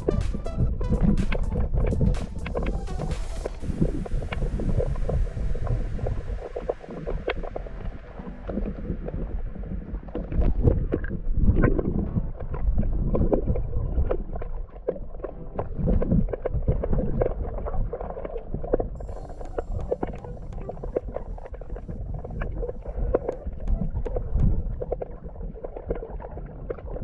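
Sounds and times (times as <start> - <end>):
underwater water sloshing rumble: 0.0 - 27.0.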